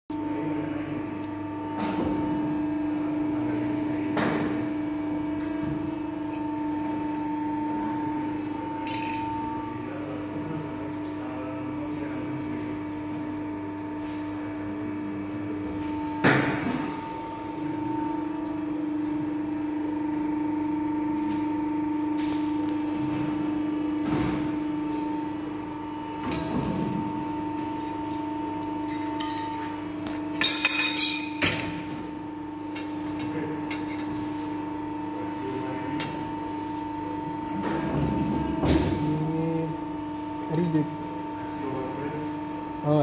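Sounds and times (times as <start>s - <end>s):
machine motor hum: 0.1s - 30.4s, 31.1s - 43.0s.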